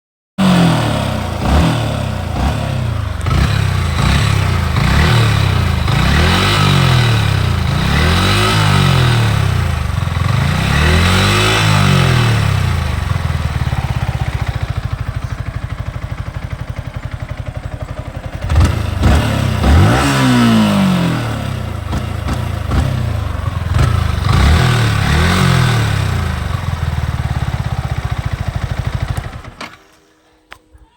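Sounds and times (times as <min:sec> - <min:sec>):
motorcycle engine revving: 0:00.4 - 0:30.0.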